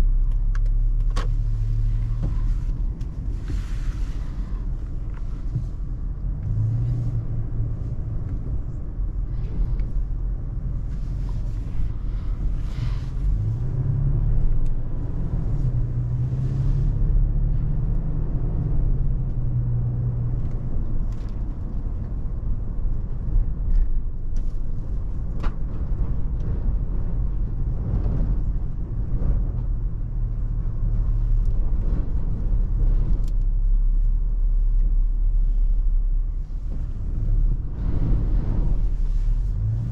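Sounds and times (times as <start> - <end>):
car engine rumbling: 0.0 - 39.9
wind noise: 1.6 - 39.9.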